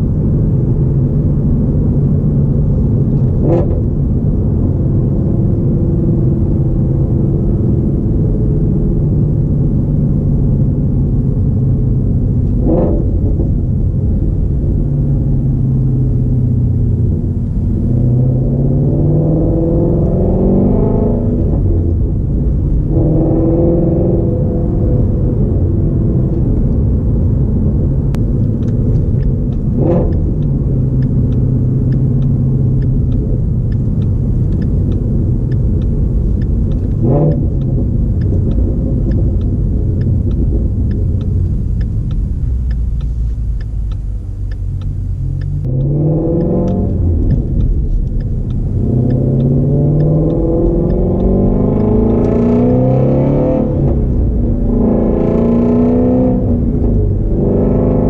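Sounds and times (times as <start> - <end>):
car engine droning and accelerating: 0.0 - 58.0.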